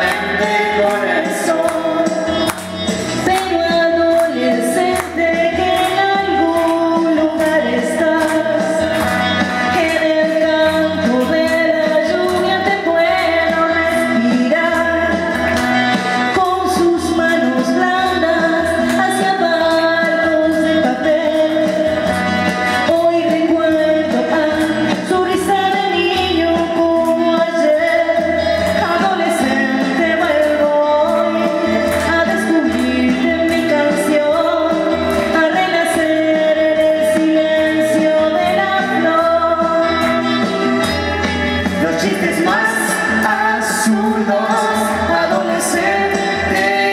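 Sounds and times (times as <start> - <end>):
woman singing into a microphone: 0.0 - 40.5, 41.9 - 46.9
instrumental backing music: 0.0 - 46.9.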